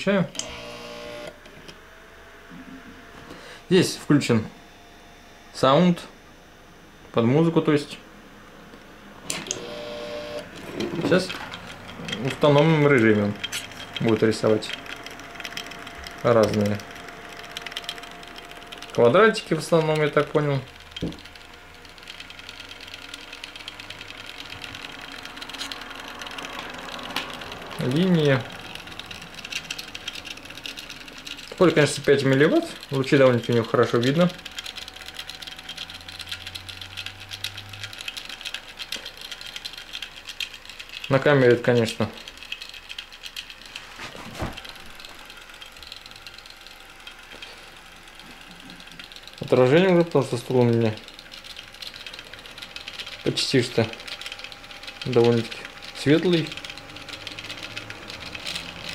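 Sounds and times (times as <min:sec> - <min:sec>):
faint steady whines: 0:00.0 - 0:58.9
stepper motors buzzing and ticking: 0:00.0 - 0:58.9.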